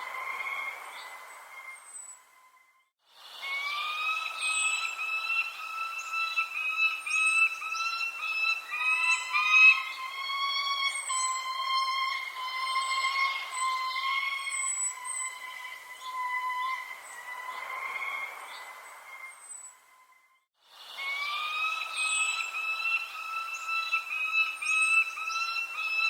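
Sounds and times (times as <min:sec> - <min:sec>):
birds chirping: 0:00.0 - 0:20.2, 0:20.9 - 0:26.0.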